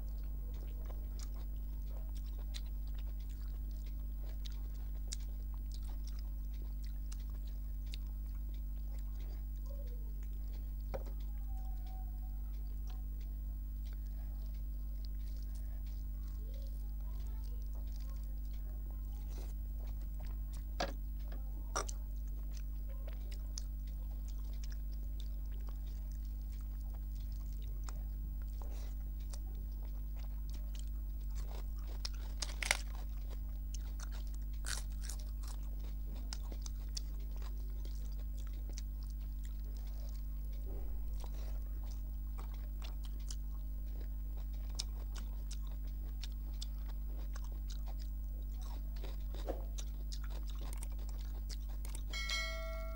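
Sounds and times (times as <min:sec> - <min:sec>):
mouth clicks and crunches: 0:00.0 - 0:52.2
soft chewing: 0:00.0 - 0:52.9
steady low hum: 0:00.0 - 0:52.9.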